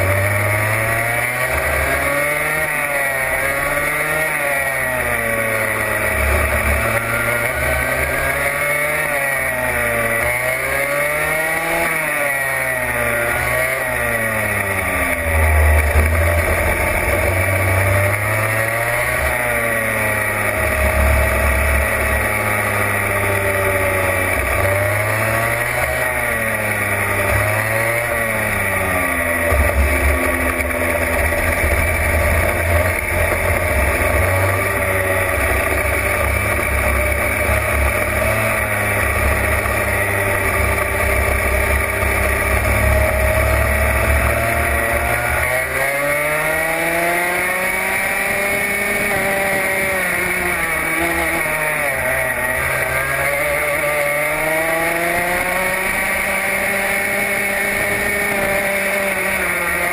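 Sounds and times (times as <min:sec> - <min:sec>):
racing kart engine: 0:00.0 - 0:59.9.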